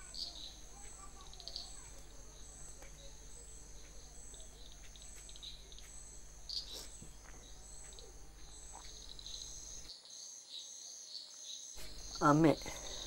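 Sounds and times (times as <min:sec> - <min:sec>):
crickets chirping: 0:00.0 - 0:13.0
faint low hum: 0:00.0 - 0:13.0.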